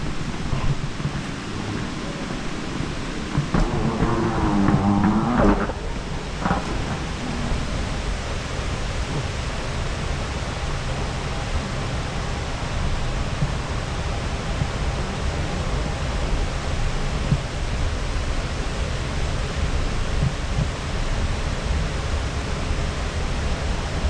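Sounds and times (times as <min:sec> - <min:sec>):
air handling hum: 0:00.0 - 0:21.0.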